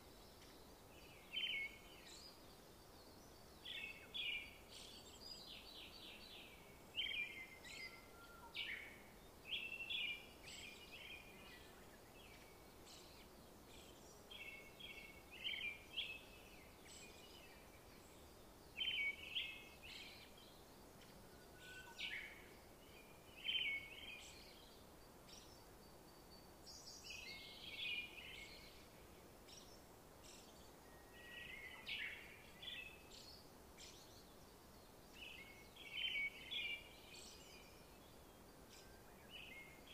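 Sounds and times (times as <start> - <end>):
faint steady hiss: 0.0 - 39.9
small birds twittering: 0.0 - 39.9.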